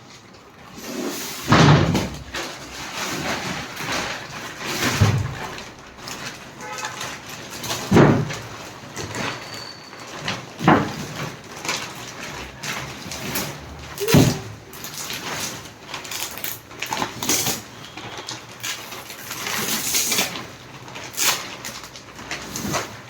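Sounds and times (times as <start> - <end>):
packaging rustling and scraping: 0.0 - 23.0.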